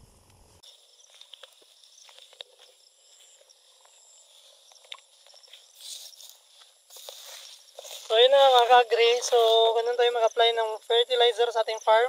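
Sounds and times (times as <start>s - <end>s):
footsteps through leafy plants: 0.6s - 12.0s.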